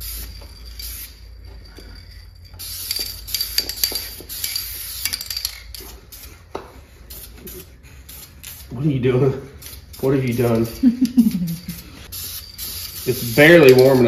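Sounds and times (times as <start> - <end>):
spray can ball rattling: 0.0 - 8.8, 9.5 - 14.0.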